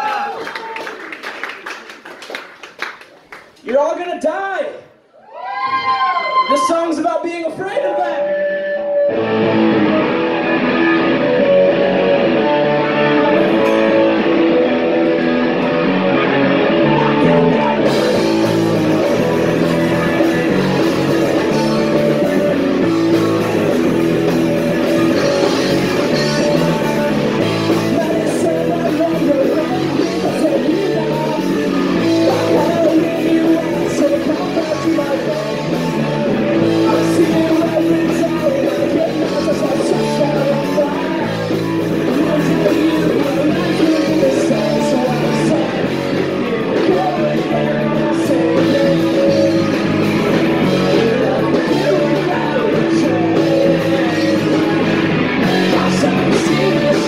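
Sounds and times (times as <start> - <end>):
drums: 4.5 - 57.0
person singing: 7.8 - 57.0
electric guitar: 7.9 - 57.0.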